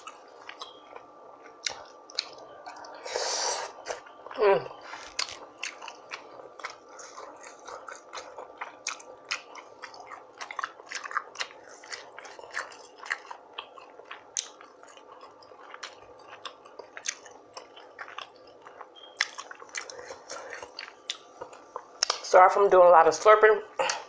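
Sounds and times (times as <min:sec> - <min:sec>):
wet chewing and smacking: 0:00.0 - 0:03.0, 0:05.0 - 0:22.2.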